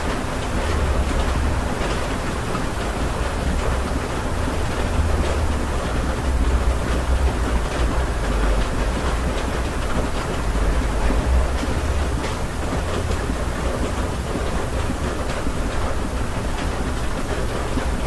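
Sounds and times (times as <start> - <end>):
faint rain patter: 0.0 - 18.0
rain heard from indoors: 0.0 - 18.0.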